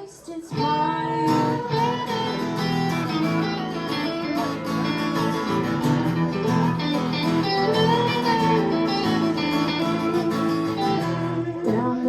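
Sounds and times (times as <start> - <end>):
guitars strumming chords: 0.0 - 12.0
sustained melody line: 0.6 - 12.0.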